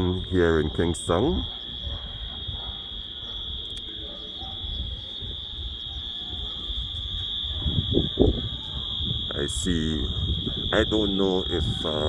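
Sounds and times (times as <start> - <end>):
insects chirring: 0.0 - 12.0
wind rumble on microphone: 0.0 - 12.0.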